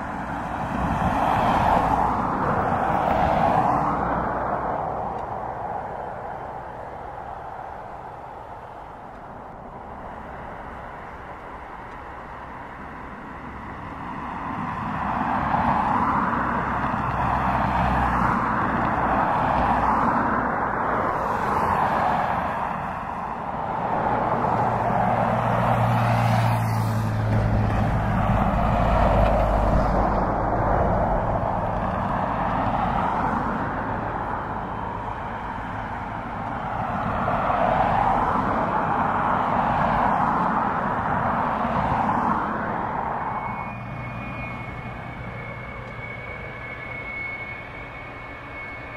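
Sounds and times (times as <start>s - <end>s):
jet engines at taxi power: 0.0s - 48.9s.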